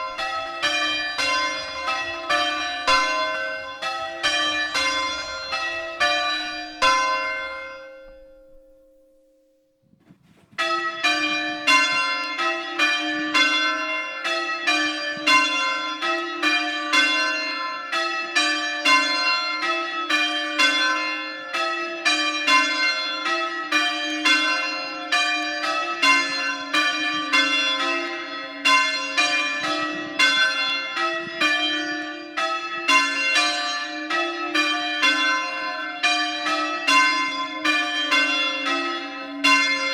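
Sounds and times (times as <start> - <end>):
church bells ringing: 0.0 - 9.5, 10.4 - 39.9.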